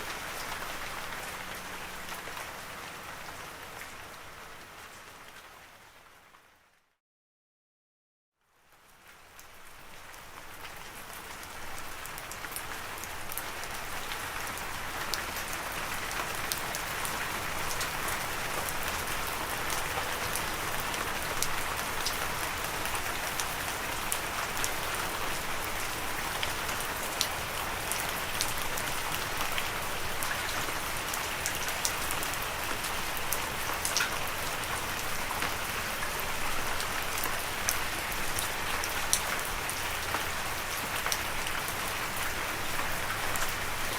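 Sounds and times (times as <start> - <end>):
raindrops ticking on a surface: 8.4 - 43.9
steady rain hiss: 8.6 - 43.9.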